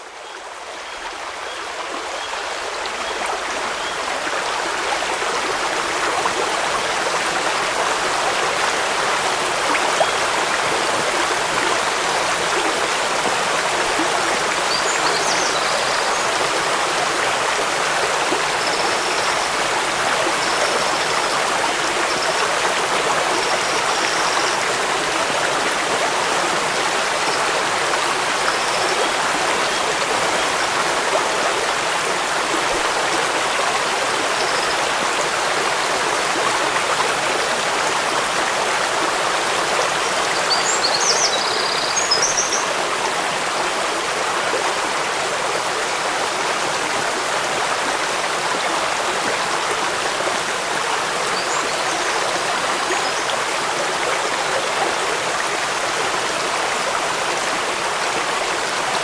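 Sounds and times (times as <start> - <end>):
rain: 0.0 - 59.0
waterfall and stream rushing: 0.0 - 59.0.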